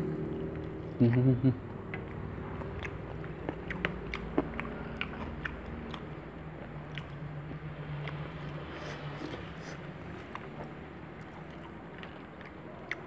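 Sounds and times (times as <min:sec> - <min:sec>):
person chewing food: 0:01.7 - 0:13.0.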